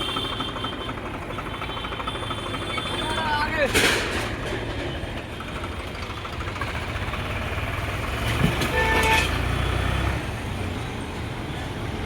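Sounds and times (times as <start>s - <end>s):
diesel engine rumbling under load: 0.0s - 12.0s.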